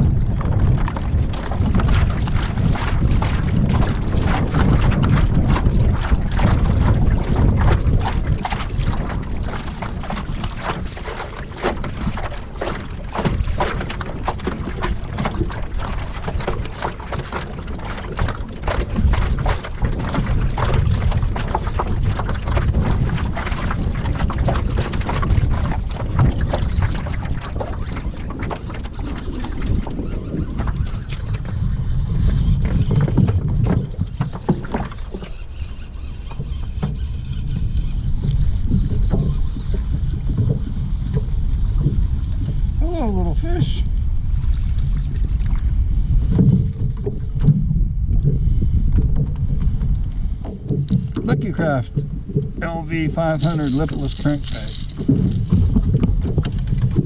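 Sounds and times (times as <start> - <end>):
water lapping against kayak hull: 0.0 - 57.0
wind buffeting microphone: 0.0 - 57.0.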